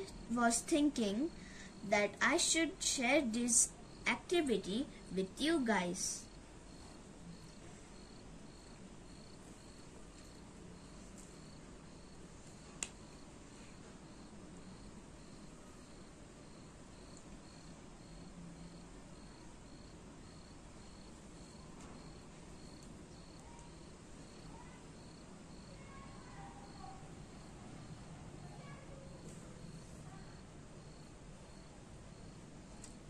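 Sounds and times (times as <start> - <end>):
low steady hiss: 0.0 - 33.0.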